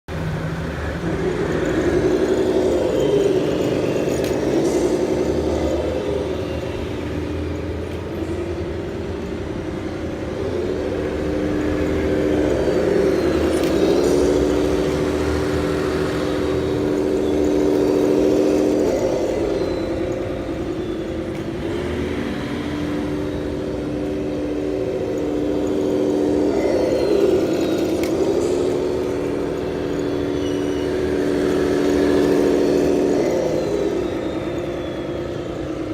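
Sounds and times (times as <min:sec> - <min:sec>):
simulated truck engine through gears: 0:00.1 - 0:35.9.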